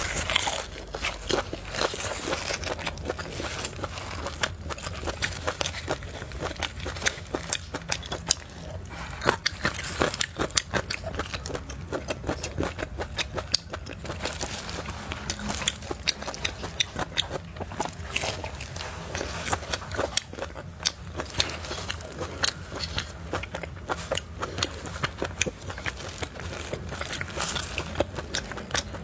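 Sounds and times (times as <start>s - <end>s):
chewing and biting mouth sounds: 0.0s - 29.0s.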